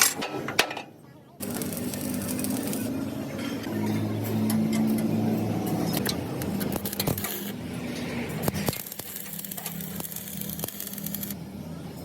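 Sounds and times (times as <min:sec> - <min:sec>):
steady machine hum: 0:01.3 - 0:12.0.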